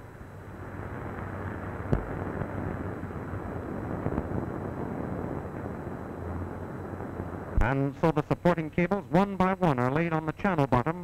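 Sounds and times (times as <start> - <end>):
muffled rumbling with low hum: 0.0 - 11.0.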